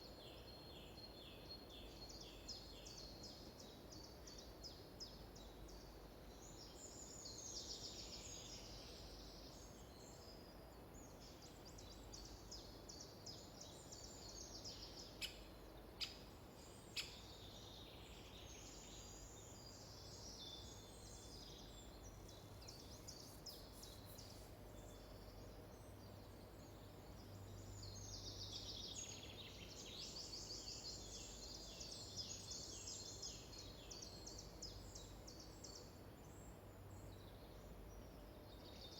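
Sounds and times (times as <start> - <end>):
birdsong trills and chirps: 0.3 - 38.9.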